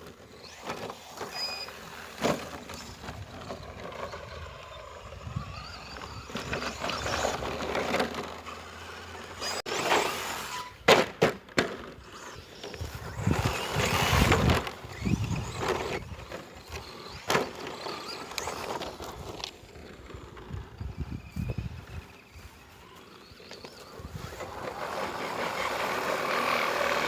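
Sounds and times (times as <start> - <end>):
rc truck motor and tyre noise: 0.0 - 27.0.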